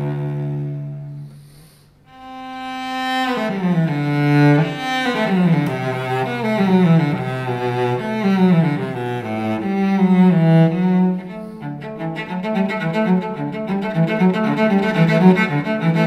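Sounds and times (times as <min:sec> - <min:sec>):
bowed cello: 0:00.0 - 0:16.0.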